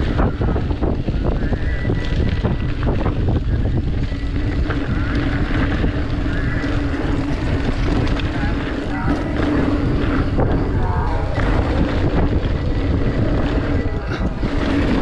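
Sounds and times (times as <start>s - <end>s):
bike rolling on gravel trail: 0.0s - 15.0s
wind buffeting microphone: 0.0s - 15.0s.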